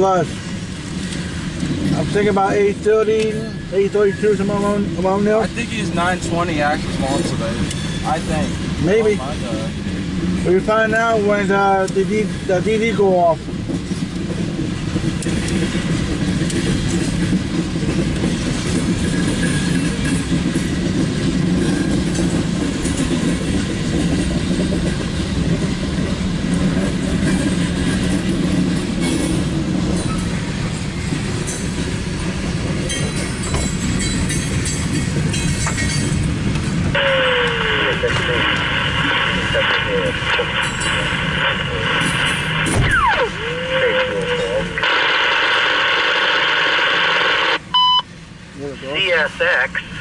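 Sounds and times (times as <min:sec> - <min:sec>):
train wheels rolling on rails: 0:00.0 - 0:48.6.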